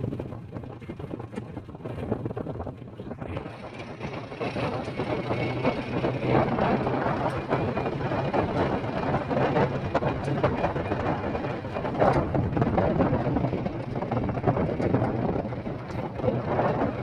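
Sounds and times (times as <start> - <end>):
road and wind noise: 0.0 - 17.0
vehicle engine hum: 0.0 - 17.0.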